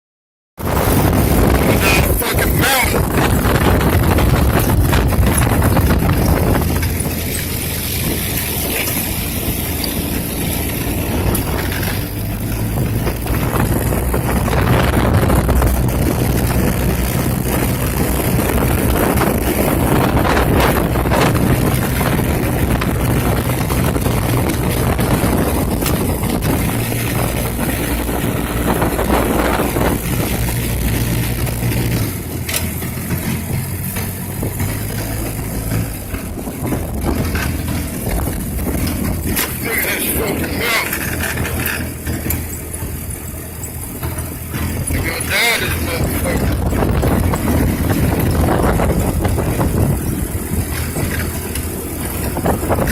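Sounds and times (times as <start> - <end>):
atv engine running: 0.6 - 52.9
rushing noise: 0.6 - 52.9.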